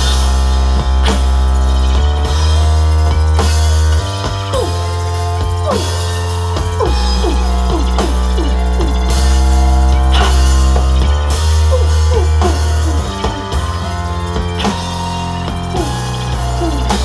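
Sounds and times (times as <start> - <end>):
deep held bass note: 0.0 - 17.0
drums: 0.0 - 17.0
layered keyboards: 0.0 - 17.0.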